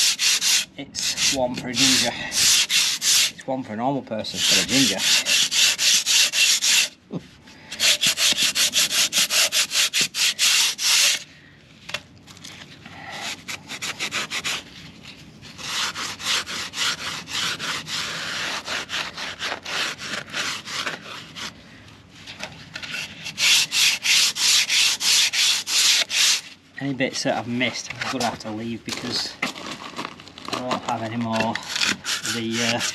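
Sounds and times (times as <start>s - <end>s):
sandpaper rubbing on concrete: 0.0s - 3.4s, 4.3s - 7.0s, 7.7s - 11.2s, 13.1s - 21.5s, 22.2s - 29.4s, 30.6s - 32.9s.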